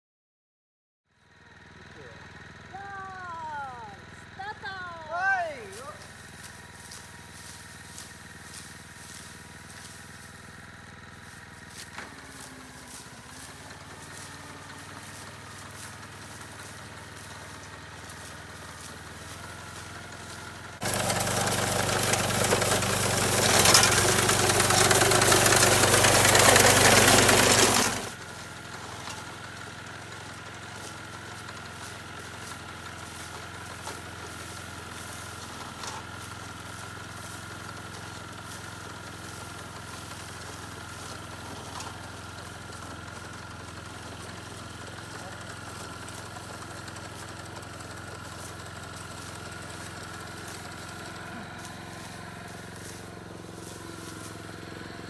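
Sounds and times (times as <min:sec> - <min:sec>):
small engine humming: 0:01.1 - 0:55.0.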